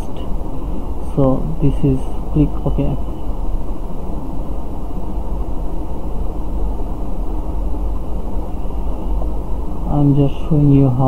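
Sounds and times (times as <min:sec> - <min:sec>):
deep hum: 0:00.0 - 0:11.0
faint high whine: 0:00.0 - 0:11.0
low rumbling background noise: 0:00.0 - 0:11.0.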